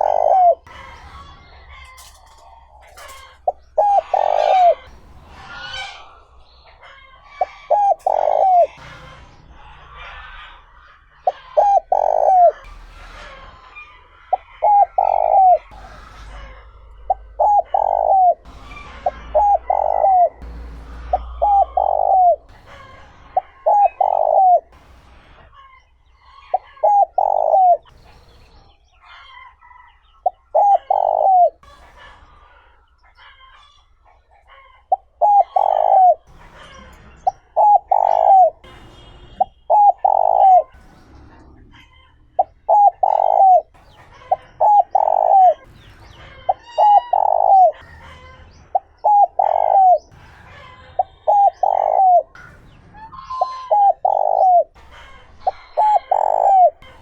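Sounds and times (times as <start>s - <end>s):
dove cooing: 0.0s - 9.0s, 9.6s - 12.8s, 13.7s - 28.0s, 30.2s - 31.7s, 34.5s - 38.7s, 39.4s - 41.0s, 41.7s - 50.2s, 51.0s - 54.8s, 55.4s - 57.0s
small birds chirping: 0.0s - 12.8s, 13.5s - 57.0s.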